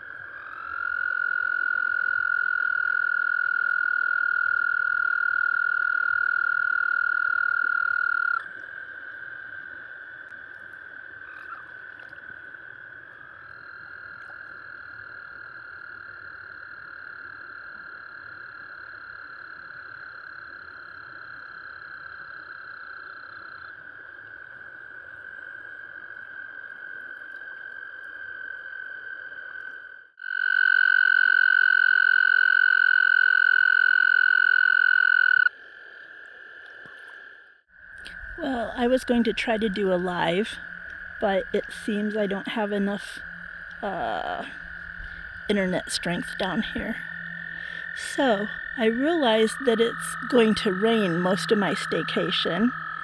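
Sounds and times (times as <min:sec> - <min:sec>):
frogs chorus: 0:00.0 - 0:53.0.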